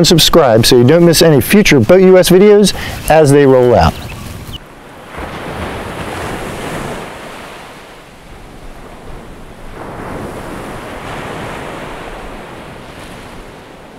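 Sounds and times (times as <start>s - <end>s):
surf washing in: 0.0s - 13.9s.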